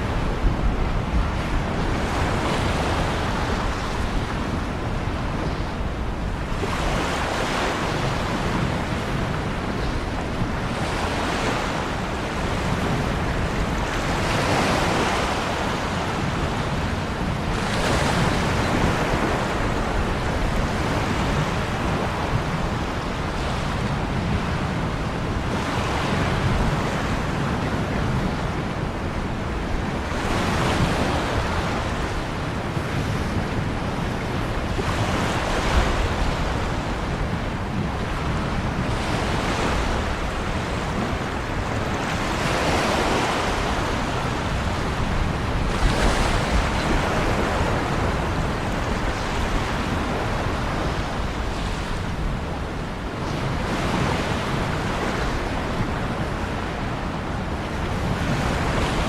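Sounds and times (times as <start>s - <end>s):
waves washing in: 0.0s - 59.0s.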